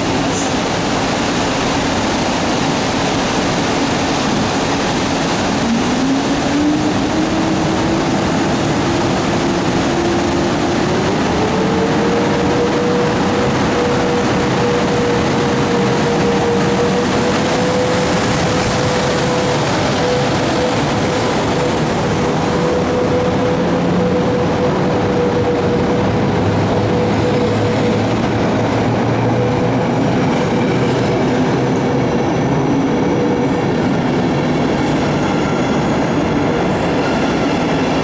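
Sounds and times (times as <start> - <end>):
train running noise: 0.0 - 38.0.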